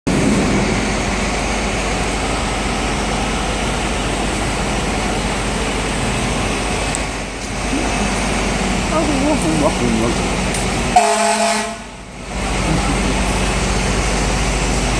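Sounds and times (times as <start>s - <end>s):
city traffic rumble: 0.0s - 14.9s.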